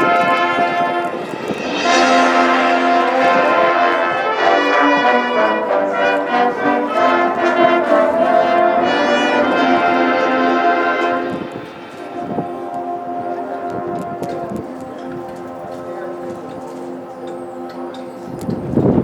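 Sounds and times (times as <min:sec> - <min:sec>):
brass chords: 0:00.0 - 0:19.0
marching band playing: 0:00.0 - 0:19.0.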